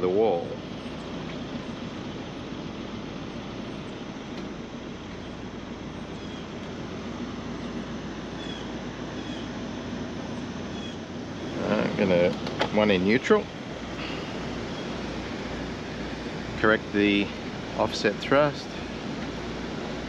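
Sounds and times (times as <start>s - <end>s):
boat engines humming: 0.0s - 20.0s.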